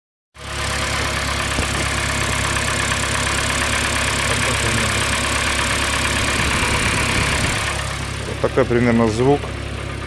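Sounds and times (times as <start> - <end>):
car engine idling: 0.4 - 10.0.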